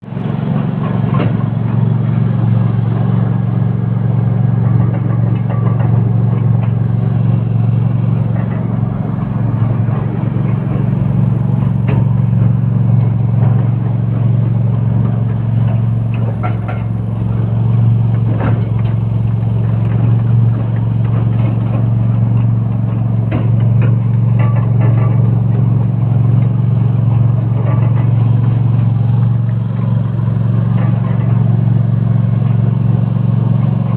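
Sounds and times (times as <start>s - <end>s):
machine droning: 0.0s - 33.9s.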